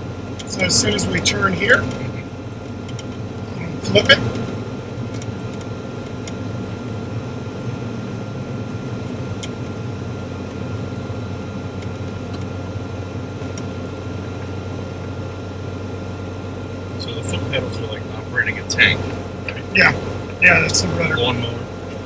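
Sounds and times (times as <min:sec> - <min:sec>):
aircraft engine droning: 0:00.0 - 0:22.0.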